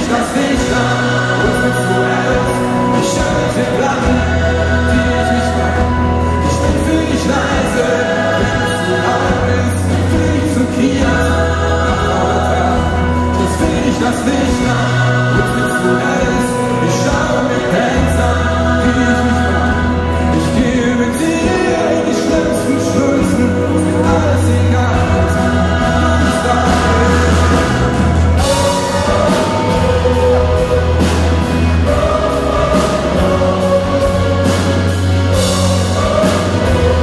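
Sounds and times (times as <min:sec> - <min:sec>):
electric guitar: 0:00.0 - 0:37.0
gospel choir singing: 0:00.0 - 0:37.0
held bass notes: 0:00.0 - 0:37.0
live pop-rock band: 0:00.0 - 0:37.0
man singing lead vocal: 0:00.0 - 0:37.0.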